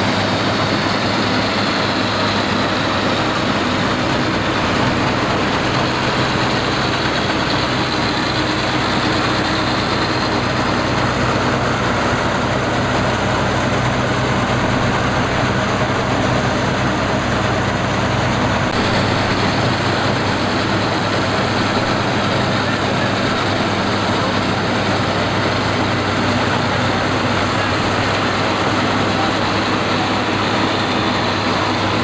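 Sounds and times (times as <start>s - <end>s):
combine harvester running: 0.0s - 32.0s.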